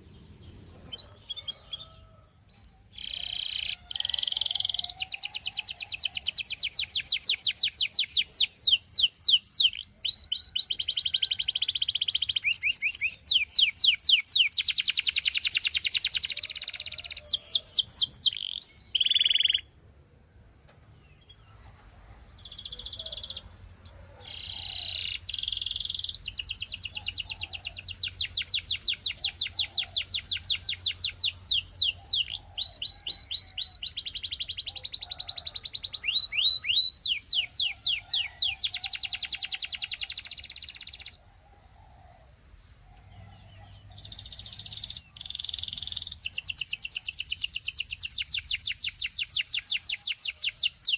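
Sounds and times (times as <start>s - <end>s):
canary singing in fast trills: 0.0s - 19.8s, 21.2s - 41.3s, 43.0s - 50.9s.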